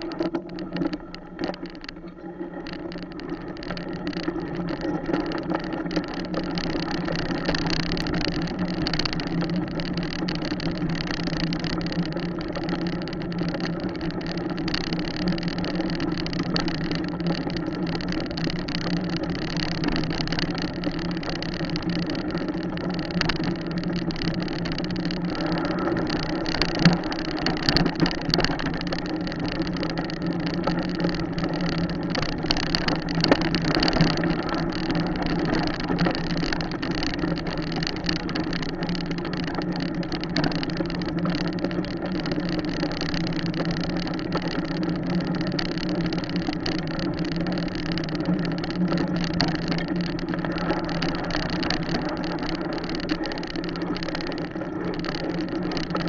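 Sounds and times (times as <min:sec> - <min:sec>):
small motorcycle engine running: 0:02.6 - 0:56.0.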